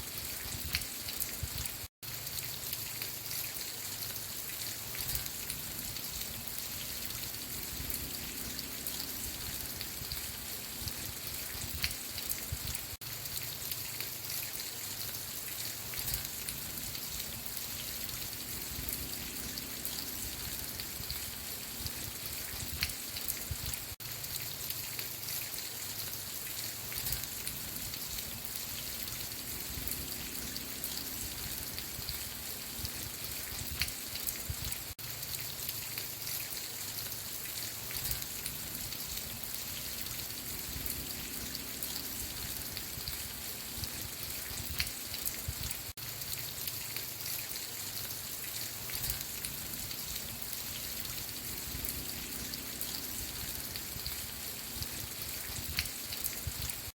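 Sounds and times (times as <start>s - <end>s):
rain falling: 0.0s - 56.9s
raindrops ticking on a surface: 0.0s - 56.9s.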